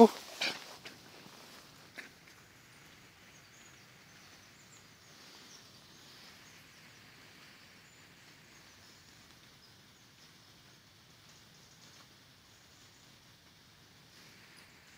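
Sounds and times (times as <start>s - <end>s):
faint outdoor ambience: 0.0s - 14.9s.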